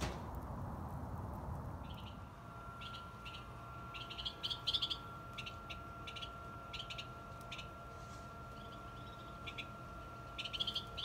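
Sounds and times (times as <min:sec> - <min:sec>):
small birds chirping: 0:01.7 - 0:11.0.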